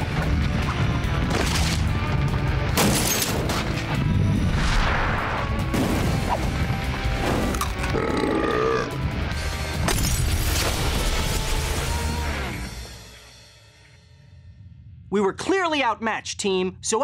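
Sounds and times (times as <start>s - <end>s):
background music: 0.0s - 14.3s.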